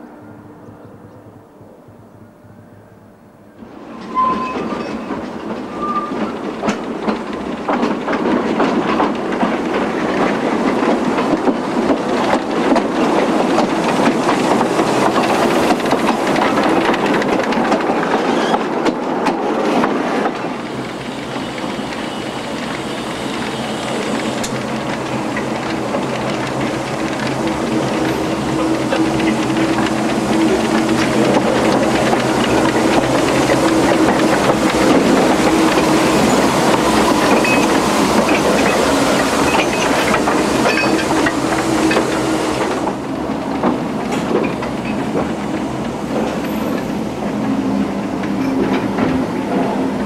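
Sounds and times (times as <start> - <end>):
coach wheels clattering over rail joints: 3.6 - 50.0.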